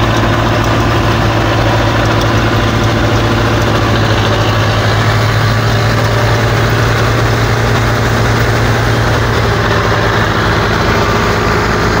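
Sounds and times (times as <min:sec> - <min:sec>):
tractor diesel engine humming: 0:00.0 - 0:12.0.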